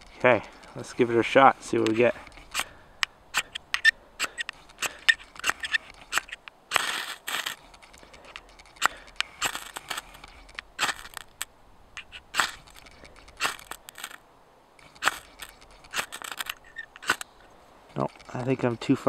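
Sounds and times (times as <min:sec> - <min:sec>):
striker scraping ferro rod: 0:00.0 - 0:14.2, 0:14.8 - 0:19.0.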